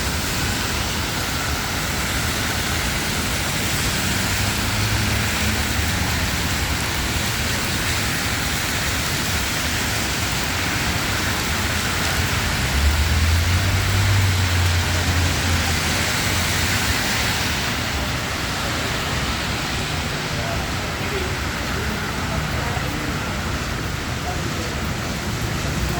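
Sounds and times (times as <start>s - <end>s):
rain hissing on street: 0.0s - 25.9s.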